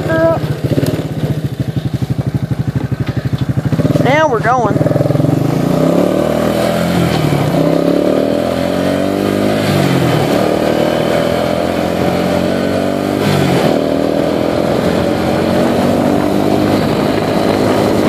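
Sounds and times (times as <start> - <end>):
quad bike engine running: 0.0 - 18.0.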